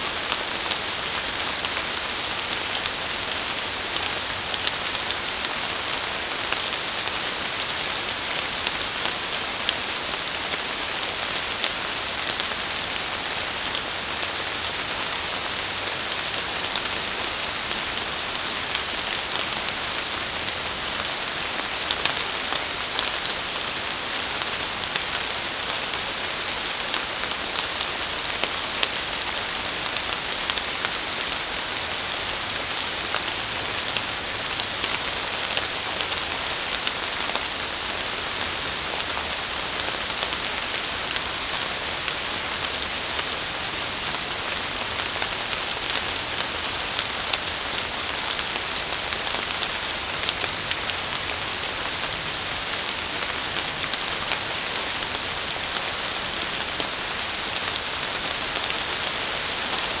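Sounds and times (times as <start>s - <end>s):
rain falling on foliage: 0.0s - 60.0s.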